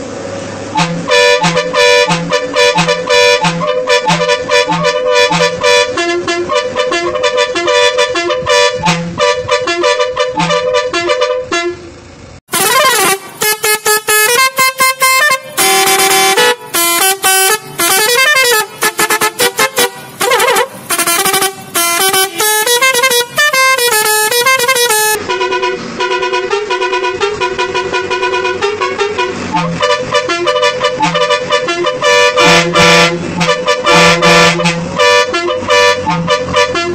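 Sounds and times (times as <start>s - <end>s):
musical air horns: 0.7s - 36.9s.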